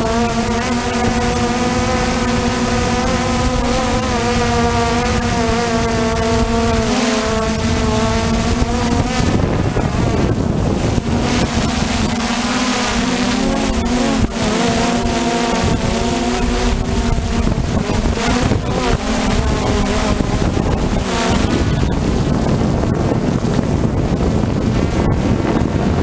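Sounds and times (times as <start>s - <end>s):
drone propellers buzzing: 0.0s - 26.0s
wind on microphone: 0.0s - 26.0s.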